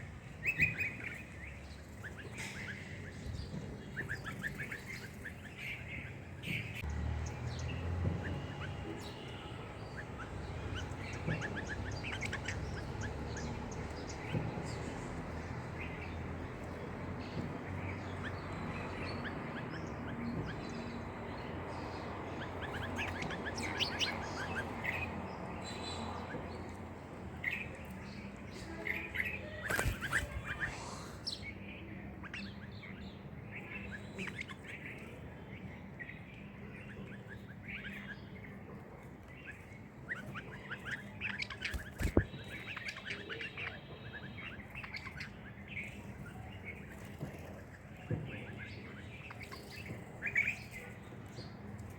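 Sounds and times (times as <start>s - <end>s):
background noise: 0.0s - 51.9s
small birds chirping: 0.0s - 51.9s.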